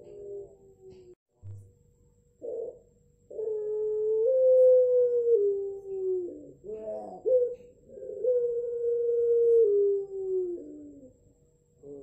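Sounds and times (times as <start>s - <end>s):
dove cooing: 0.0s - 1.2s, 2.4s - 12.0s.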